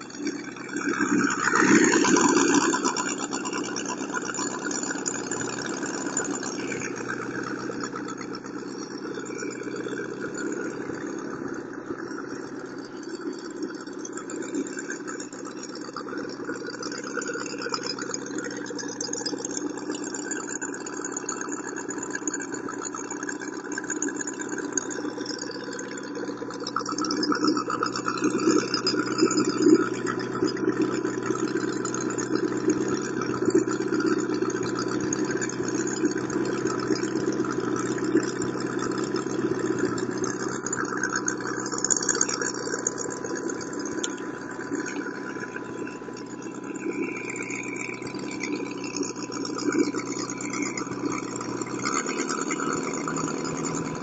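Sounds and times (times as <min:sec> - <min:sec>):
model aircraft engine running: 0:00.0 - 0:54.0.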